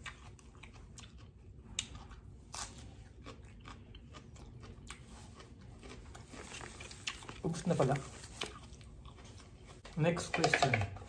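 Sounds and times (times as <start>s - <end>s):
person chewing crunchy food: 0.0s - 9.9s.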